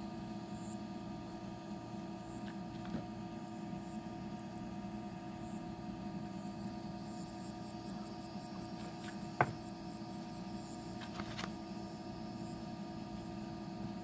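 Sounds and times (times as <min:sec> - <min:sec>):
background hum with steady tones: 0:00.0 - 0:14.0.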